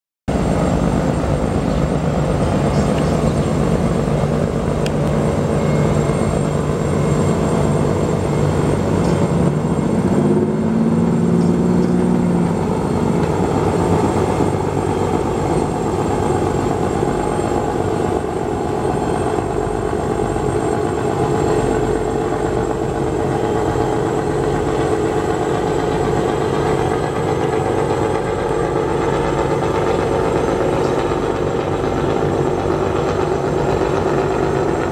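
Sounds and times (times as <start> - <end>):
boat engines running: 0.3 - 34.9.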